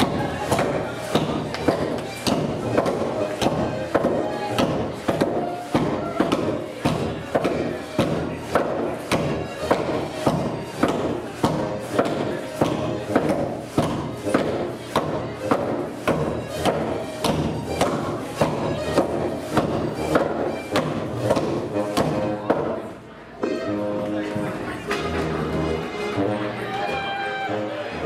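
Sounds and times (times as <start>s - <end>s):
dancers slapping and stomping: 0.0s - 22.8s
folk dance music: 0.0s - 28.0s.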